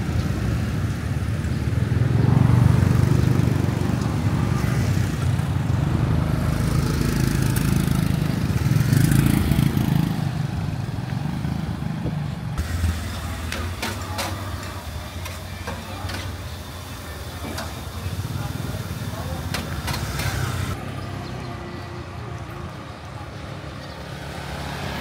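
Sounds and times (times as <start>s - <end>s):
vehicles passing close by: 0.0s - 25.0s.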